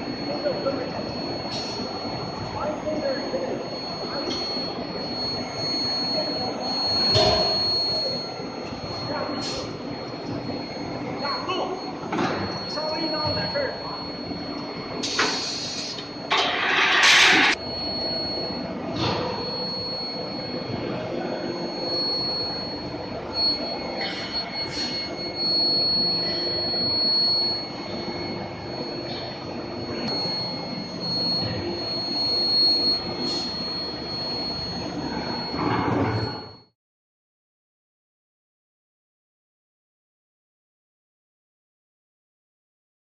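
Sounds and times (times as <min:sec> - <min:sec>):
high-pitched whine: 0:00.0 - 0:36.7
machine hum: 0:00.0 - 0:36.7.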